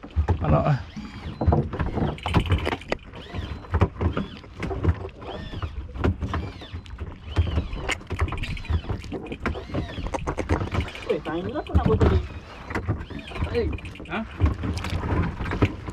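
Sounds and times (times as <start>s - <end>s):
knocks and clatter on boat: 0.0s - 15.9s
short squeaks: 0.9s - 4.6s, 5.2s - 15.9s.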